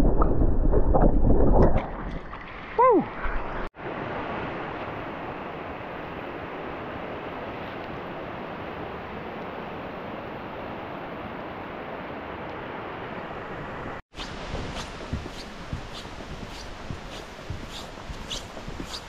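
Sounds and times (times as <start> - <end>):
stream rushing over riffles: 3.4 - 19.0.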